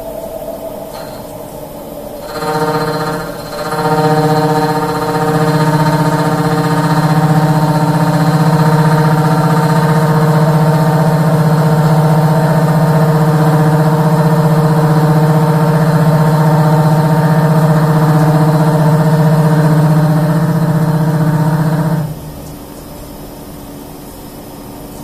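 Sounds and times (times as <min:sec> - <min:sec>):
electric machine hum: 0:00.0 - 0:24.4.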